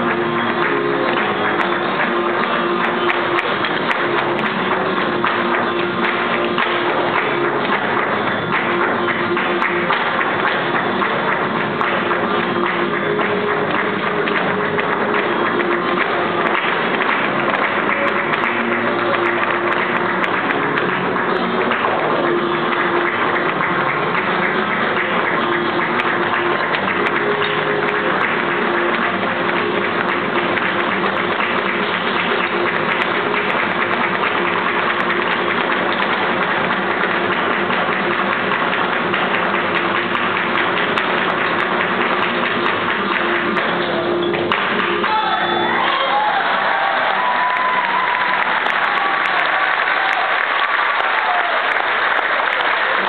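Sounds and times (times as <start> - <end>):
audience applause: 0.0 - 53.0
rhythmic handclapping: 0.0 - 53.0.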